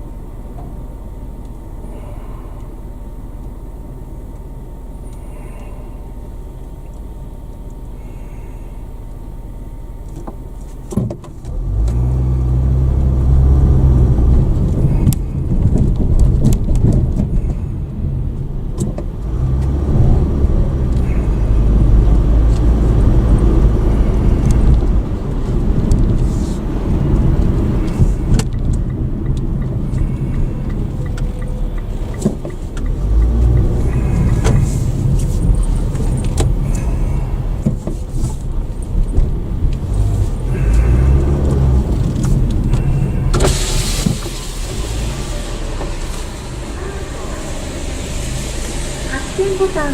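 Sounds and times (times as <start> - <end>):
car cabin hum: 0.0 - 49.9
car engine and road rumble: 0.0 - 49.9.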